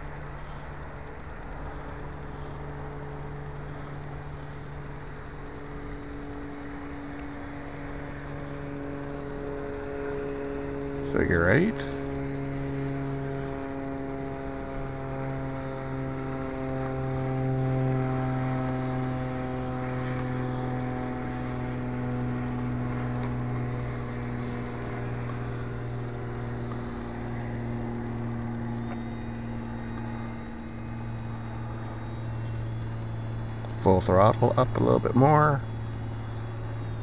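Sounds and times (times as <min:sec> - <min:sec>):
model plane motor humming: 0:00.0 - 0:37.0.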